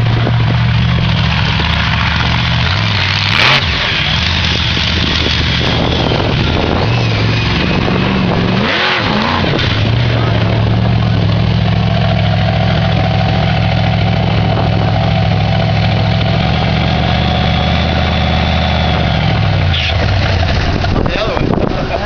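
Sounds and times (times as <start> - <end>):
monster truck engine idling: 0.0 - 22.0.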